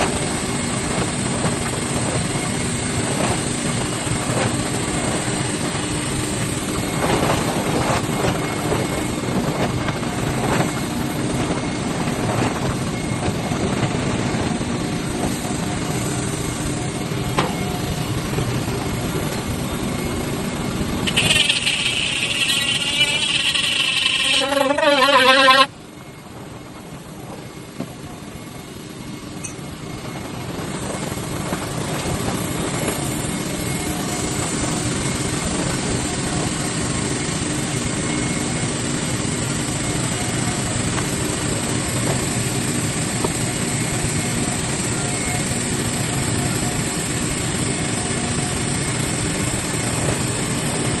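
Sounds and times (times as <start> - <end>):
mechanical running noise: 0.0 - 51.0.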